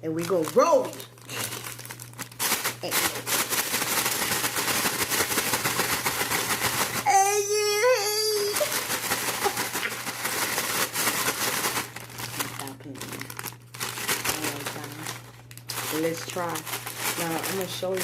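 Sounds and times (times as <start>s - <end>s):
paper bag crinkling: 0.0s - 18.0s.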